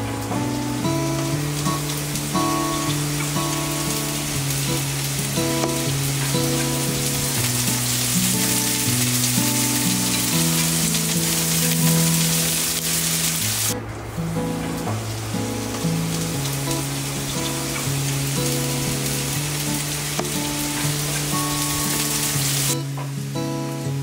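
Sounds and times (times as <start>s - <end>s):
food sizzling in frying pan: 0.0s - 23.8s
background music with held notes: 0.0s - 24.0s.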